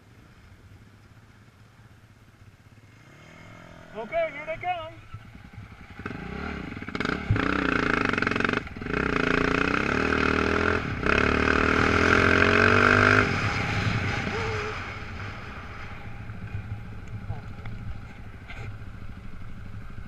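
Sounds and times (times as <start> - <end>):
off-road motorcycles passing: 0.0 - 20.0.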